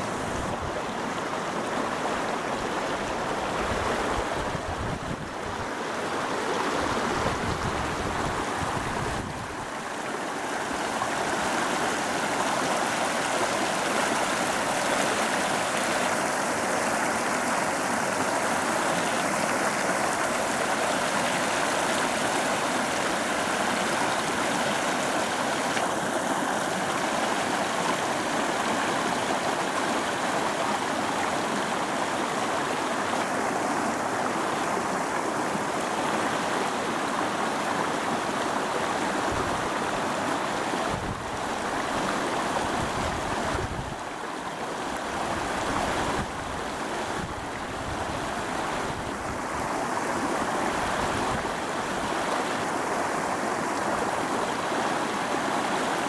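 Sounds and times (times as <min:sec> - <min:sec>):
river rushing over stones: 0:00.0 - 0:56.0.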